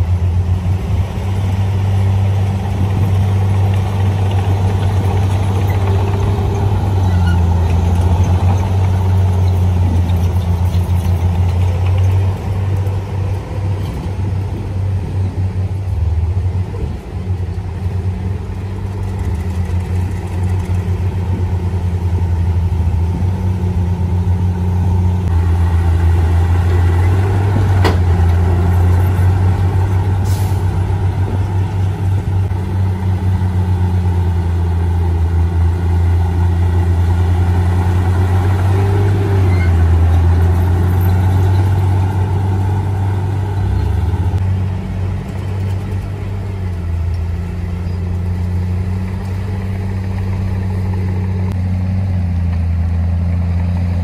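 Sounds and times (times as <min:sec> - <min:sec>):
heavy diesel engines droning: 0:00.0 - 0:54.0.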